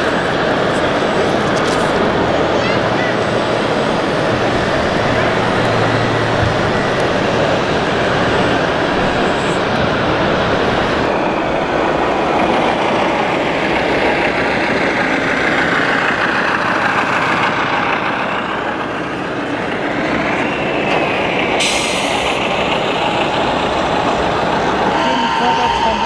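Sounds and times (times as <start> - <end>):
steady noise: 0.0 - 26.0.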